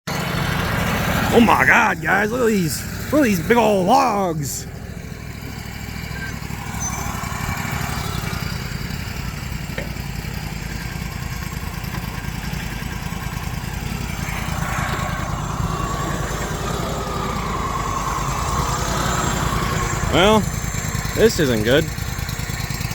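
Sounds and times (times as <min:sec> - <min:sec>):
engine low rumble: 0:00.1 - 0:22.9.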